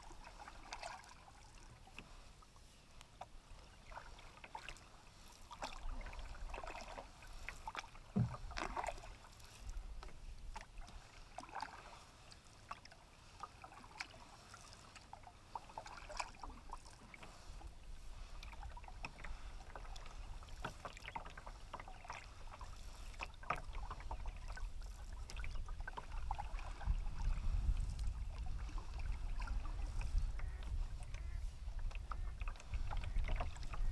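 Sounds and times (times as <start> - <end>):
paddle splashes: 0.0 - 33.9.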